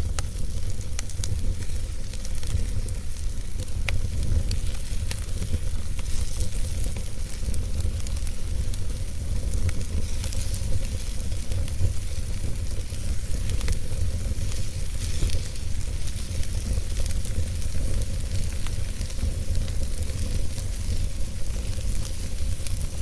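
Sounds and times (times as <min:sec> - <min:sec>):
fire burning in fireplace: 0:00.0 - 0:23.0.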